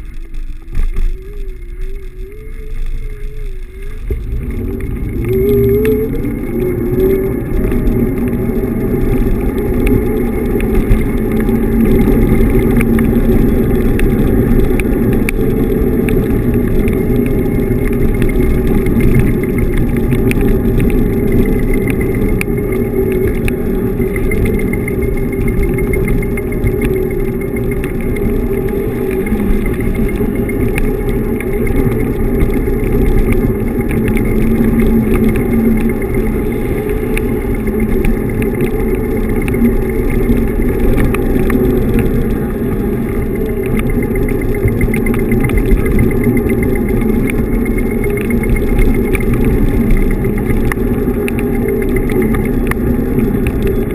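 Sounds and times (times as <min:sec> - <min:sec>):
electric scooter rumbling on pavement: 0:00.0 - 0:53.9
wind buffeting microphone: 0:00.0 - 0:53.9.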